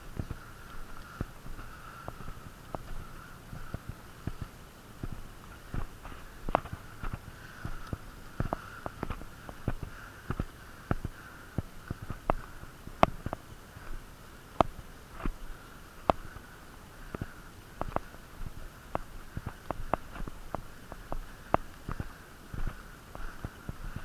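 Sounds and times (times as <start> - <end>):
crunching footsteps: 0.0 - 14.0, 14.6 - 24.0
heavy nasal breathing: 0.1 - 24.0.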